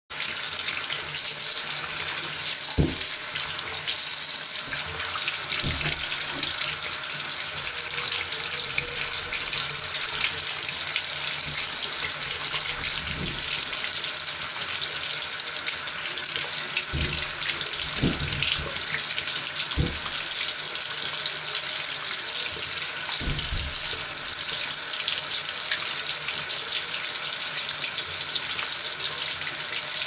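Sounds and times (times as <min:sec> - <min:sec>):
tap water running into sink: 0:00.1 - 0:30.0.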